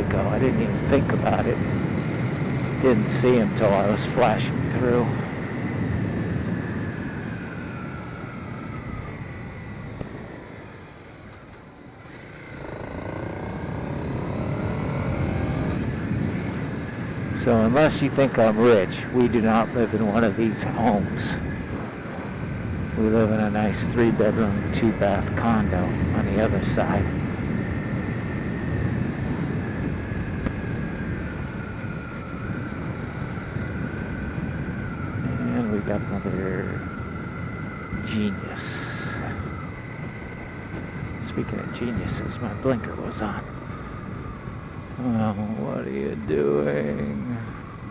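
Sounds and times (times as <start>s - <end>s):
motorcycle engine: 0.0s - 47.9s
road noise: 0.0s - 47.9s
thin whine dropping in pitch: 0.0s - 47.9s
wind rushing over microphone: 0.0s - 47.9s.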